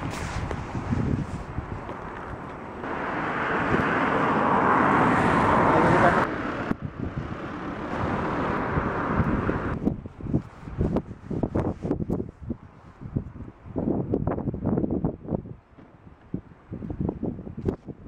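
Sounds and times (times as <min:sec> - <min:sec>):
van engine and tyre noise: 0:00.0 - 0:18.0
wind on microphone: 0:00.0 - 0:18.0.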